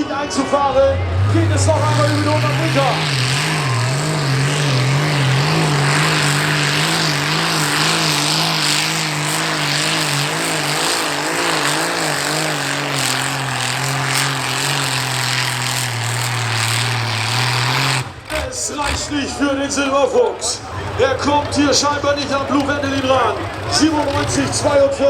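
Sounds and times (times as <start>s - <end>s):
tractor engine at full throttle: 0.0s - 25.0s.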